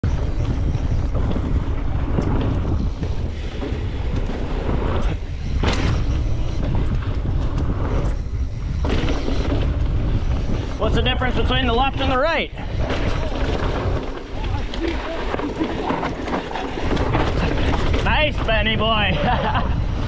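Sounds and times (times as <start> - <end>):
tyres on wooden boardwalk: 0.0 - 20.0
tyres rolling on dirt trail: 0.0 - 20.0
wind buffeting microphone: 0.0 - 20.0.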